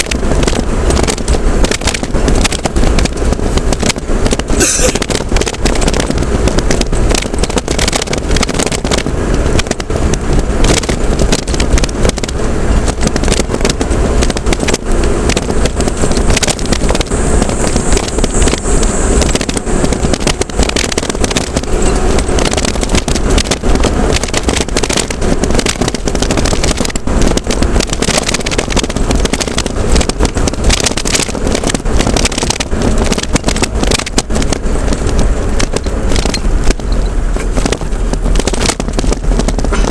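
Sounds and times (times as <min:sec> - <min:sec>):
constant crackling: 0:00.0 - 0:39.9
vehicle engine and road noise: 0:00.0 - 0:39.9.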